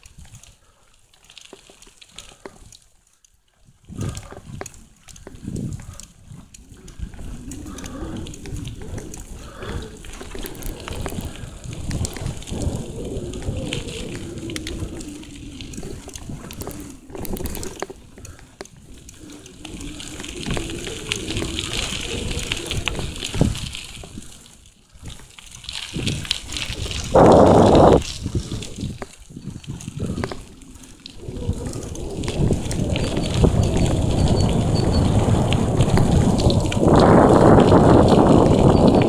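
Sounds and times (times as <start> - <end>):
bicycle tyres crunching on gravel: 0.0 - 39.0
bike rattling over bumps: 0.0 - 39.0.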